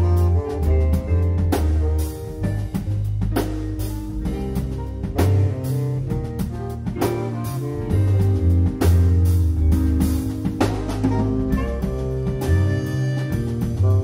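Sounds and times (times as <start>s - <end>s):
deep bass notes: 0.0s - 14.0s
drum kit steady beat: 0.0s - 14.0s
guitar: 0.0s - 14.0s
keyboard: 0.0s - 14.0s.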